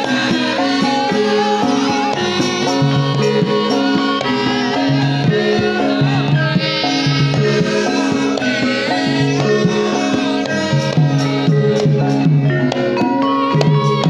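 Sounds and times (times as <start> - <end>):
bronze metallophones: 0.0 - 14.0
gamelan music: 0.0 - 14.0
gongs: 0.0 - 14.0.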